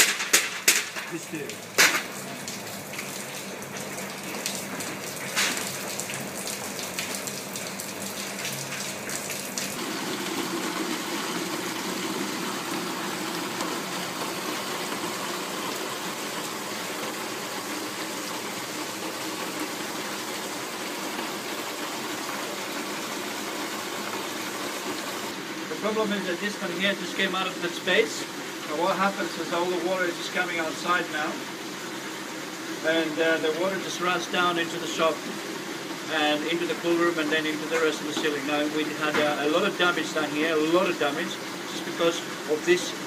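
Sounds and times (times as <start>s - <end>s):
rainwater running from downpipe: 0.0s - 43.0s.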